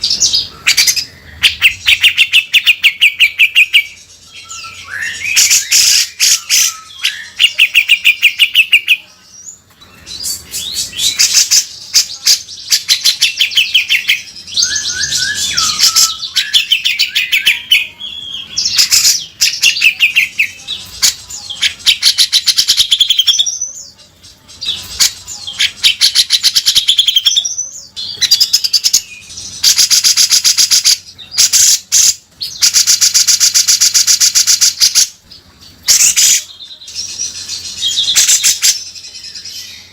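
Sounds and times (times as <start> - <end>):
bird singing harsh chatters: 0.0 - 39.9.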